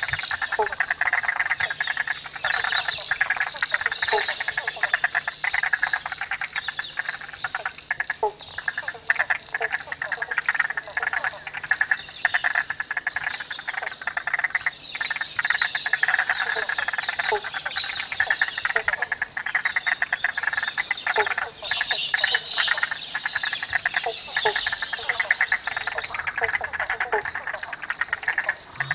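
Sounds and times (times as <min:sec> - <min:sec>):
frogs trilling: 0:00.0 - 0:28.9.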